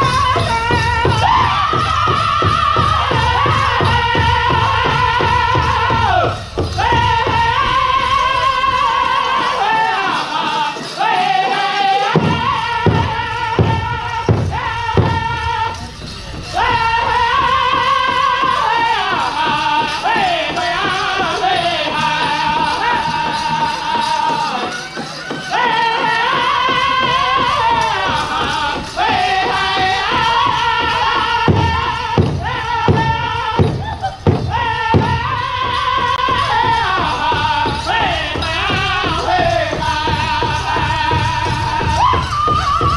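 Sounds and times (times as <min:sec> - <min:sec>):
big drum beat: 0:00.0 - 0:42.9
men's high-pitched chorus singing: 0:00.0 - 0:42.9.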